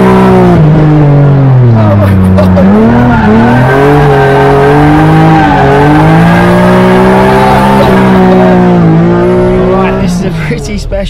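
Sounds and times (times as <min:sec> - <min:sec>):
car engine revving hard: 0:00.0 - 0:10.6.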